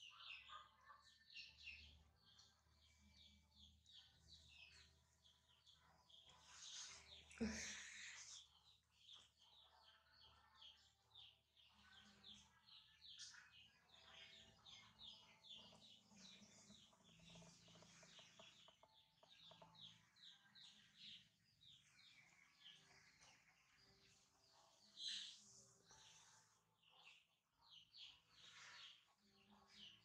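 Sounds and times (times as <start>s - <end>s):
bird chirping: 0.0s - 30.0s.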